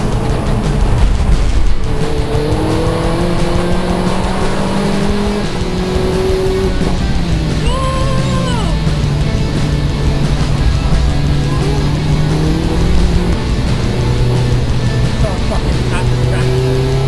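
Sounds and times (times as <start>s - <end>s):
background music: 0.0s - 17.0s
race car engine at speed: 0.0s - 17.0s.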